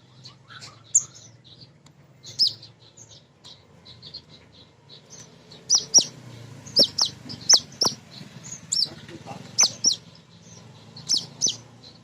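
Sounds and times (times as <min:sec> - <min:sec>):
sunbird chirping: 0:00.0 - 0:12.0.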